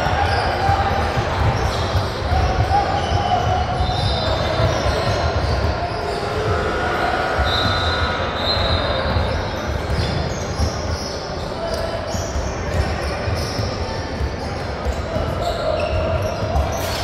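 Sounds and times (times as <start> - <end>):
sneakers squeaking on hardwood: 1.4 - 6.0, 7.4 - 17.0.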